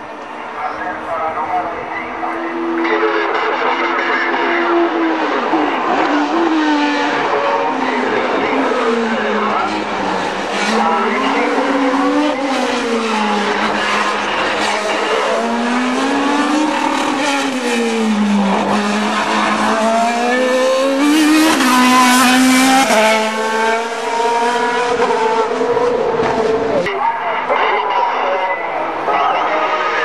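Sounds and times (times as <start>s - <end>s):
race car engine revving: 0.1s - 27.5s.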